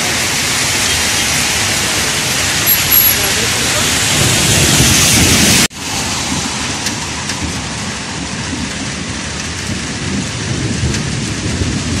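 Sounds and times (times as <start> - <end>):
heavy rain on wet street: 0.0 - 12.0.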